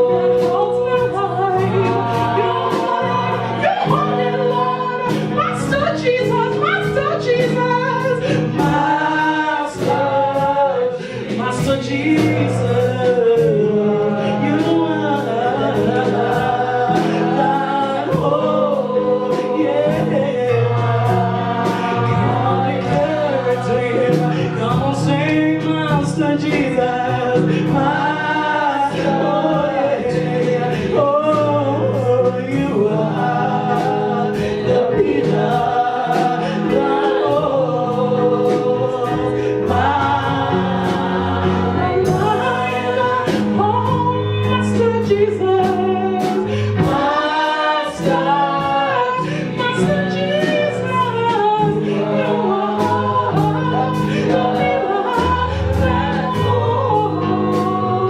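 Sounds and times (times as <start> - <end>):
bass notes: 0.0 - 58.0
group singing worship song: 0.0 - 58.0
steady drum beat: 0.0 - 58.0.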